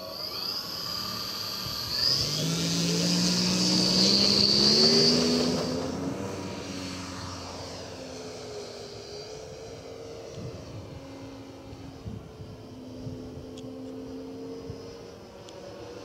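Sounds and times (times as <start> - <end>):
model airplane propeller: 0.0 - 16.0.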